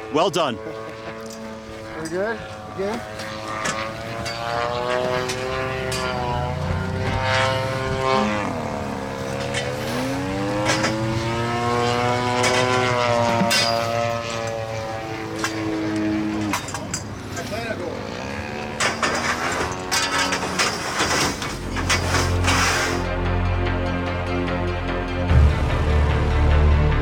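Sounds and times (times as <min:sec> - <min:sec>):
model airplane propeller engine: 0:00.0 - 0:24.3.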